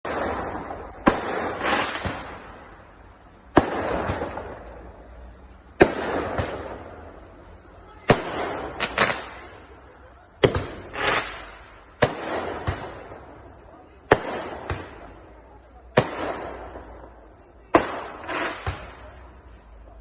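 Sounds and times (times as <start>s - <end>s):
fireworks bangs: 0.0s - 19.7s
fireworks cracks and rumble: 0.0s - 20.0s.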